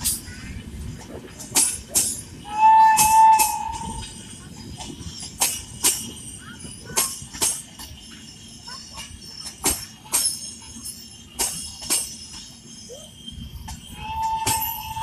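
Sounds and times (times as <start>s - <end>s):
train rolling rumble: 0.0s - 15.0s
train wheels clacking over rail joints: 0.0s - 15.0s
high metallic ringing: 2.2s - 15.0s.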